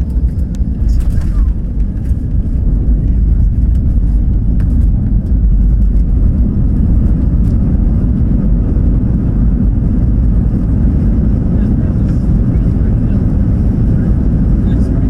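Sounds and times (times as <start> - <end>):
aircraft engine noise: 0.0 - 15.0
airflow noise in cabin: 0.0 - 15.0.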